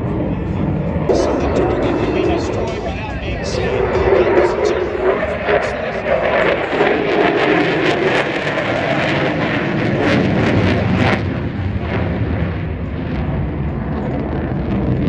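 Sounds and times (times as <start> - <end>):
jet engine roaring and crackling: 0.0 - 15.0.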